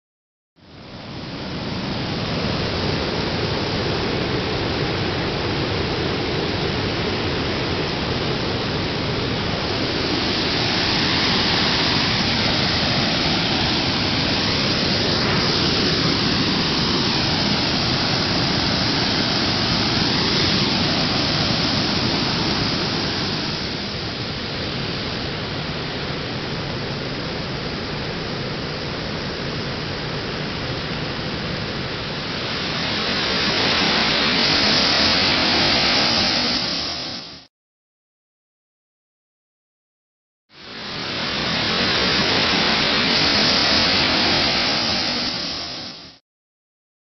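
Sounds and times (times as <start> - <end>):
steady rushing hiss: 0.7 - 37.5, 40.6 - 46.2.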